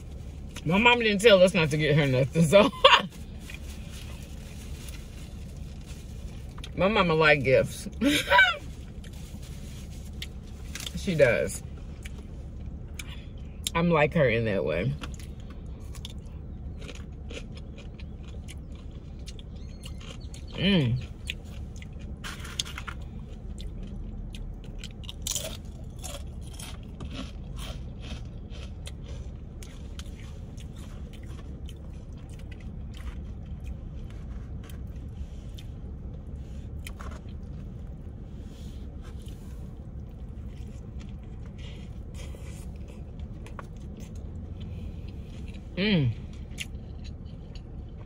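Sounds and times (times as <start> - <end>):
steady low hum: 0.0 - 48.0
person chewing with crunches: 3.0 - 6.8, 8.0 - 11.1, 14.9 - 48.0.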